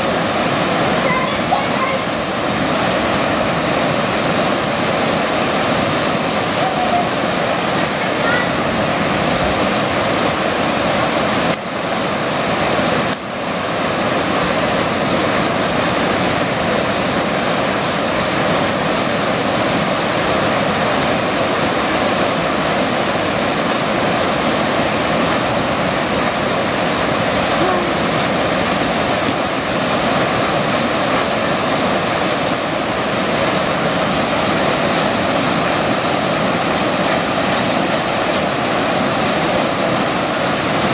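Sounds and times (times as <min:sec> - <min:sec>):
rushing whitewater: 0:00.0 - 0:40.9.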